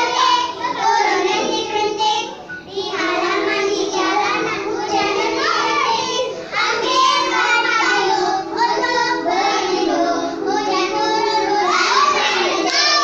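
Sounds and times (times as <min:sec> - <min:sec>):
child singing: 0:00.0 - 0:13.0.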